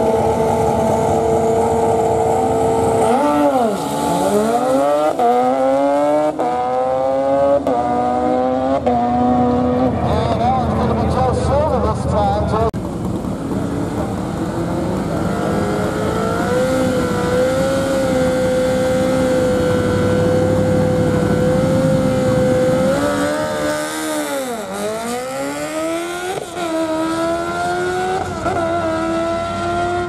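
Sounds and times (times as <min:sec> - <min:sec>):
motorcycle engine revving: 0:00.0 - 0:12.0, 0:12.7 - 0:30.0.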